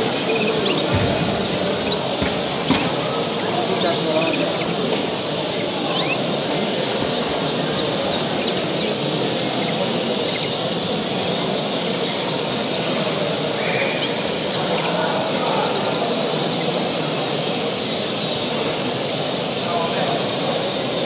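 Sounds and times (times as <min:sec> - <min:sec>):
canaries chirping and trilling: 0:00.0 - 0:21.0
dense background din: 0:00.0 - 0:21.0.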